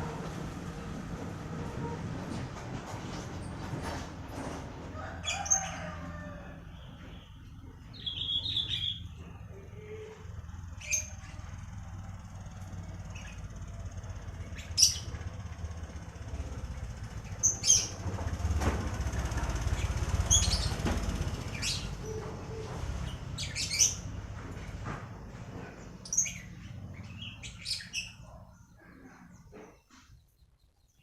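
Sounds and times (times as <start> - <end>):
low steady rumble: 0.0 - 29.6
songbirds chirping: 5.1 - 18.4, 19.0 - 31.0.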